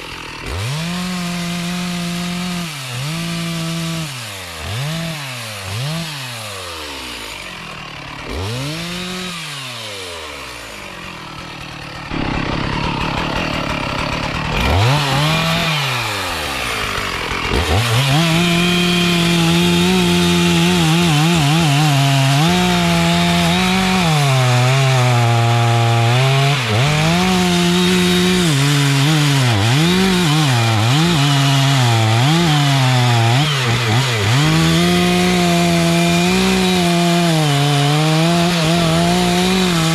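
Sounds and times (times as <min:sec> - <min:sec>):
chainsaw revving and cutting wood: 0:00.0 - 0:39.9.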